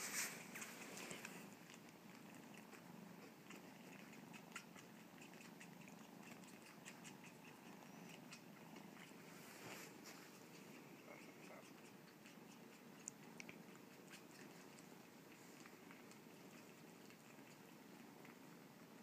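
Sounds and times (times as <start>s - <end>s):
faint kitten purring: 0.0s - 19.0s
kitten suckling clicks and smacks: 0.5s - 9.2s, 10.3s - 19.0s.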